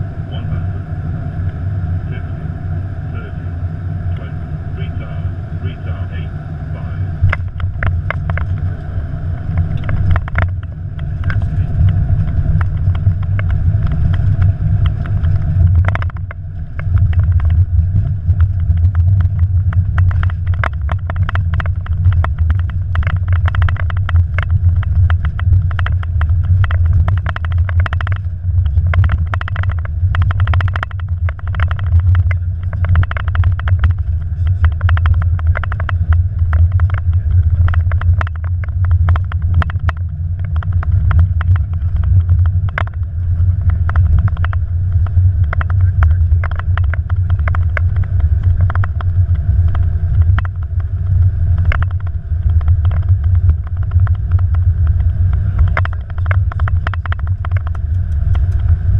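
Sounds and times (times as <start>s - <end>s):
aircraft rolling deep rumble: 0.0s - 58.9s
rattles and knocks: 7.2s - 8.7s, 9.4s - 58.8s.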